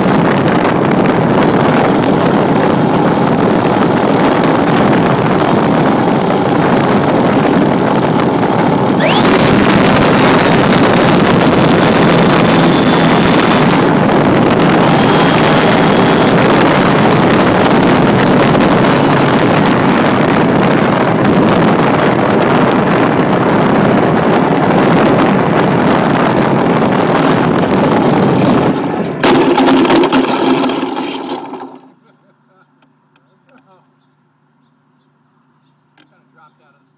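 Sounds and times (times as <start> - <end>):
wind rushing: 0.0 - 31.0
model airplane engine running: 0.0 - 31.8.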